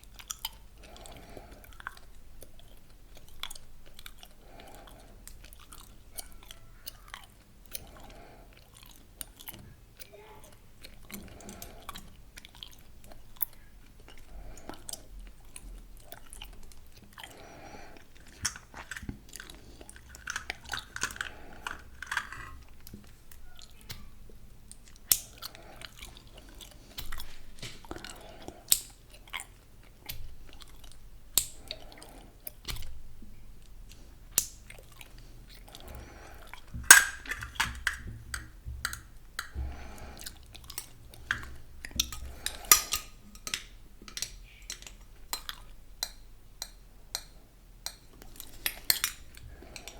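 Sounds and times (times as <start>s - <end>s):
gum chewing: 0.0s - 49.9s.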